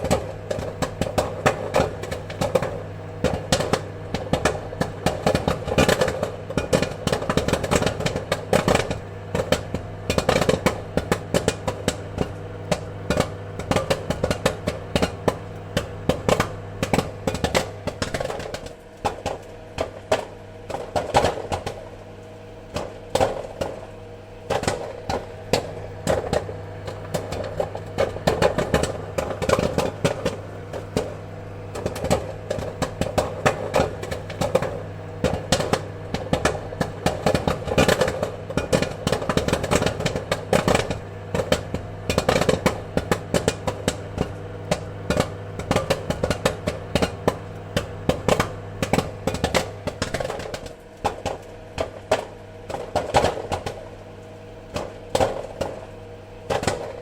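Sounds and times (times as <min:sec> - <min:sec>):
popcorn kernels popping: 0:00.0 - 0:57.0.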